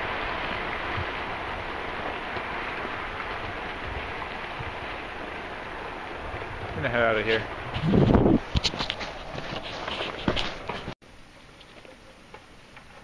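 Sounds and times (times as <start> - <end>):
rock and ash avalanche rushing: 0.0 - 11.0.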